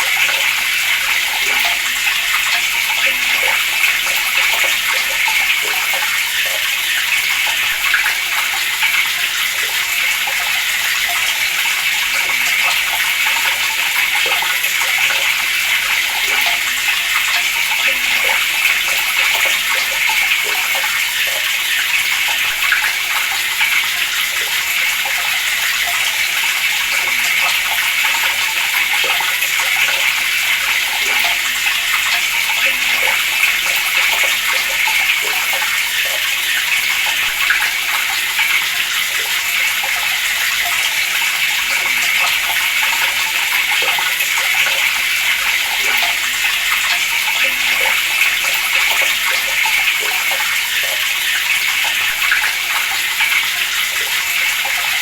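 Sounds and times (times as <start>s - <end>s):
water running from tap: 0.0s - 55.0s.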